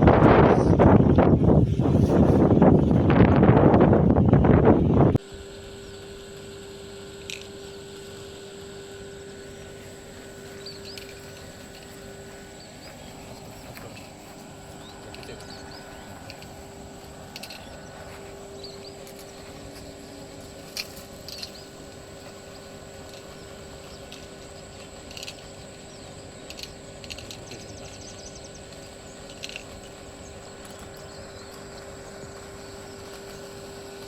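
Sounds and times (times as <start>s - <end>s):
faint steady hum: 0.0s - 34.0s
steady hiss: 0.0s - 34.0s.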